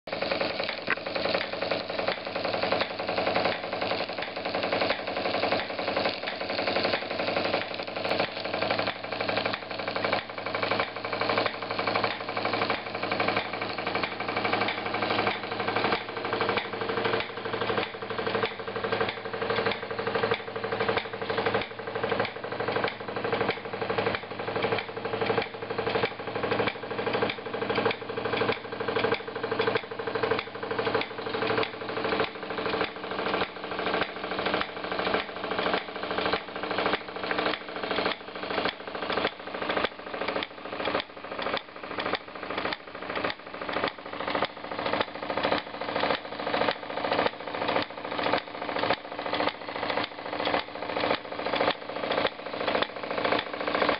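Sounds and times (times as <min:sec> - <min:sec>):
constant whirr: 0:00.1 - 0:53.9
rhythmic mechanical clatter: 0:00.1 - 0:53.9.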